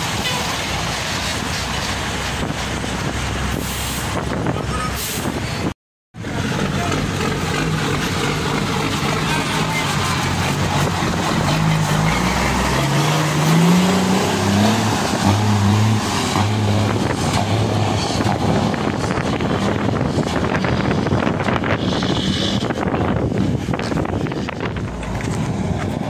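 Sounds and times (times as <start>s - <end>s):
truck diesel engine accelerating: 0.0s - 26.0s.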